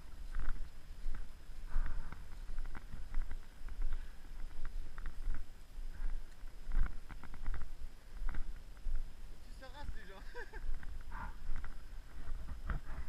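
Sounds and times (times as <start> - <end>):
wind rumble on microphone: 0.0 - 10.0, 10.6 - 13.0.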